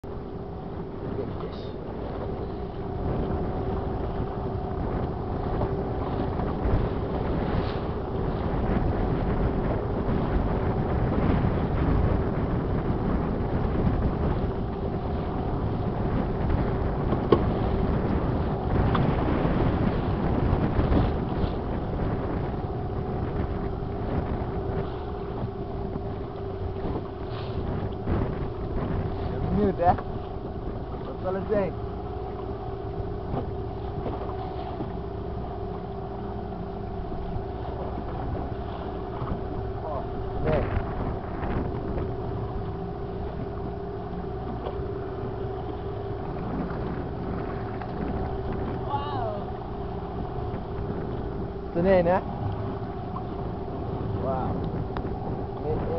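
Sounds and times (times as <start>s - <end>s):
boat engine hum: 0.0s - 55.9s
water noise: 0.0s - 55.9s
wind buffeting microphone: 0.0s - 55.9s.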